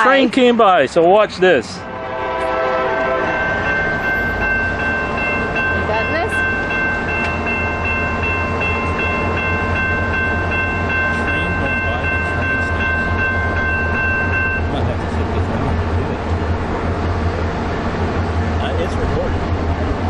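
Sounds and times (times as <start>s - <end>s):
steady low rumble: 1.2s - 20.0s
railroad crossing bell ringing: 1.8s - 20.0s.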